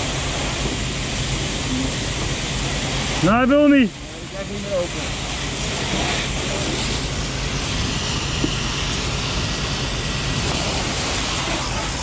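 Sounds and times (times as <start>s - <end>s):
fire hose spraying water: 0.0s - 12.0s.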